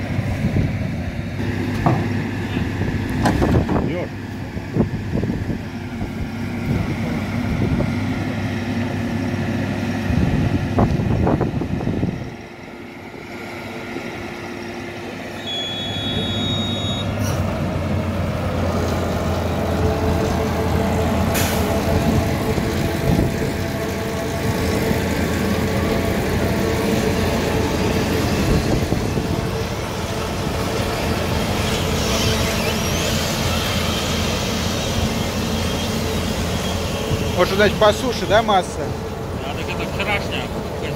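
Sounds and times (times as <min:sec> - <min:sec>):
diesel farm machinery droning: 0:00.0 - 0:40.9.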